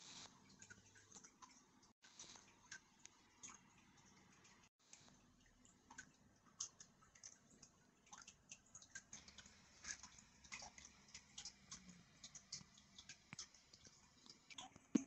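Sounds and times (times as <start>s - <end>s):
faint small clicks and ticks: 0.0s - 15.0s.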